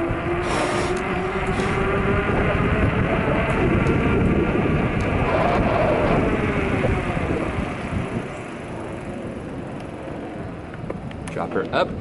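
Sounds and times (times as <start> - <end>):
bicycle road noise: 0.0 - 12.0
wind rush: 0.0 - 12.0.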